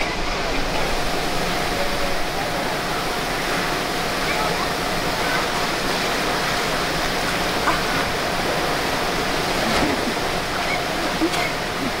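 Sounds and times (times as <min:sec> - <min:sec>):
water rushing through trough: 0:00.0 - 0:12.0.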